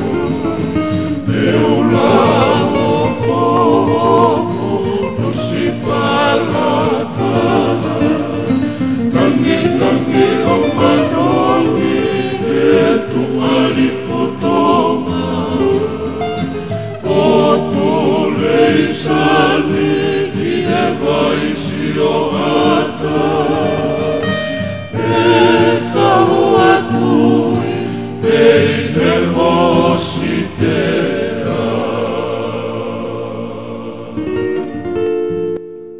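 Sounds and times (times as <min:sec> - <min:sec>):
group singing in harmony: 0:00.0 - 0:35.0
acoustic guitar: 0:00.0 - 0:35.9.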